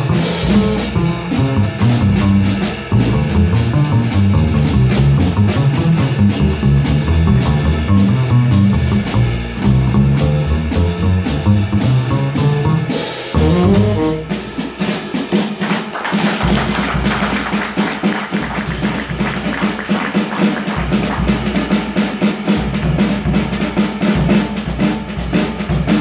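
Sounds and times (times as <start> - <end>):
jazz drum solo with sticks: 0.0 - 26.0.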